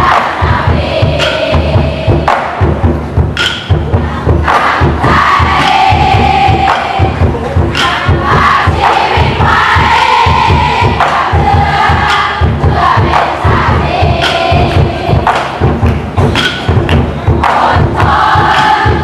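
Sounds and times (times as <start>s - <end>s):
crowd chanting and singing: 0.0s - 19.0s
steady drum beat: 0.0s - 19.0s.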